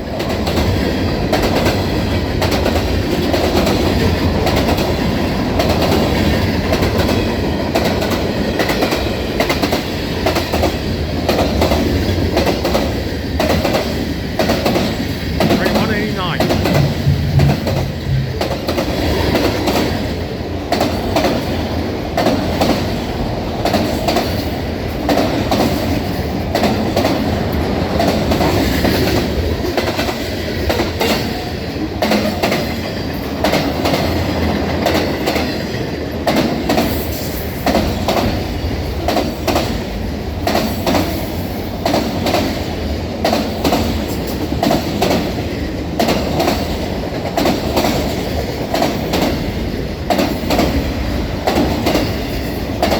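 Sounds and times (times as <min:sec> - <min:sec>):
train wheels clacking over rails: 0:00.0 - 0:15.8, 0:16.4 - 0:52.9.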